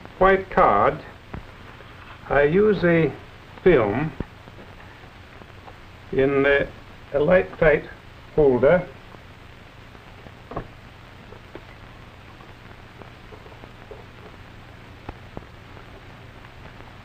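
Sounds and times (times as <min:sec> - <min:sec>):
film soundtrack hiss and crackle: 0:00.0 - 0:17.0
low steady hum: 0:00.0 - 0:17.0.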